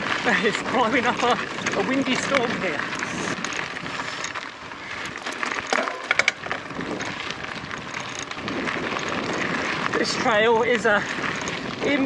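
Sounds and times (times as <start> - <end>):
bike clicks and rattles: 0.0 - 12.0
bike tyres on rocky trail: 0.0 - 12.0
wind buffeting microphone: 0.0 - 12.0.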